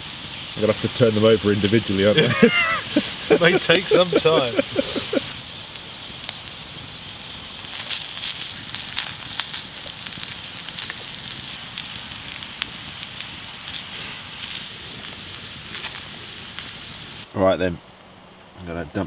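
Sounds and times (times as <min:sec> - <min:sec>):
potatoes sizzling in a pan: 0:00.0 - 0:18.8
campfire crackling: 0:00.0 - 0:19.0.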